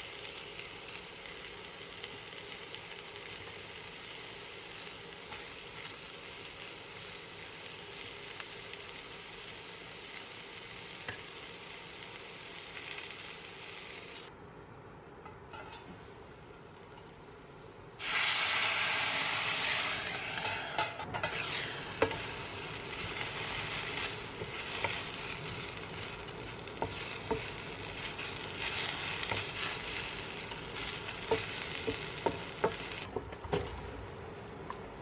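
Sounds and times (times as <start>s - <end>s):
food sizzling in a pan: 0.0s - 14.3s, 18.0s - 34.5s.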